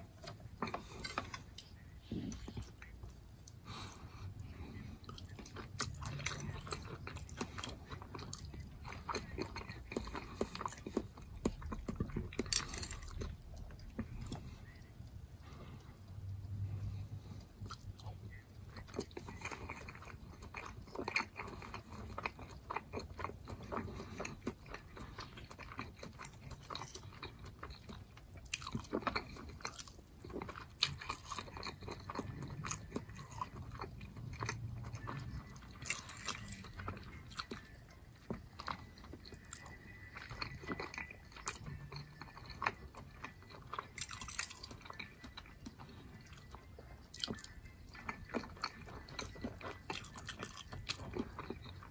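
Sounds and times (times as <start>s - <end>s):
close-miked chewing: 0.0s - 51.9s.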